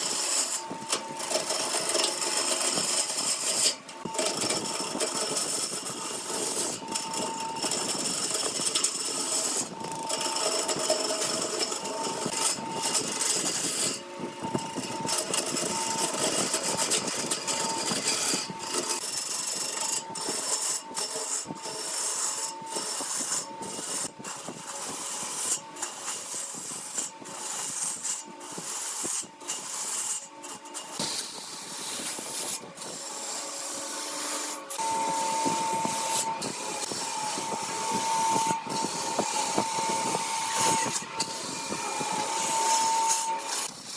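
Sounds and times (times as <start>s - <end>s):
lathe motor whine: 0.0s - 43.9s
tool scraping spinning wood: 0.0s - 43.9s.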